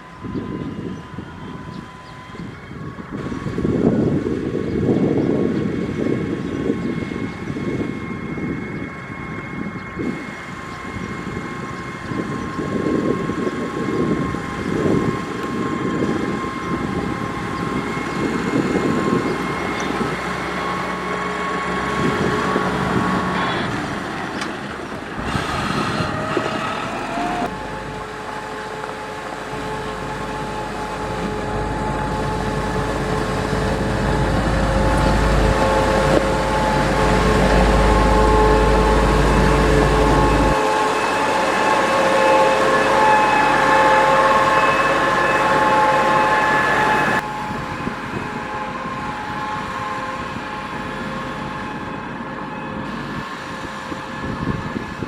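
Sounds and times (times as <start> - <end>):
diesel engine whine: 0.0 - 55.0.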